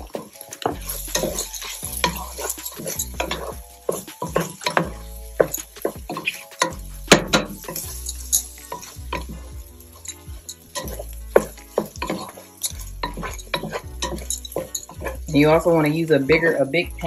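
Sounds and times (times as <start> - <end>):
spoon scraping pot: 0.0 - 15.6
rice sizzling in butter: 0.0 - 17.0.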